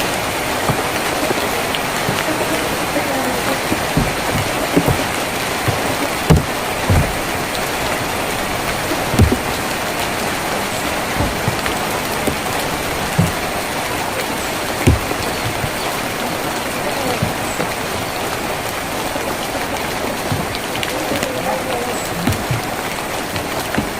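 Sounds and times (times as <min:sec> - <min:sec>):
heavy drips knocking: 0:00.0 - 0:23.9
rain on a tin roof: 0:00.0 - 0:23.9.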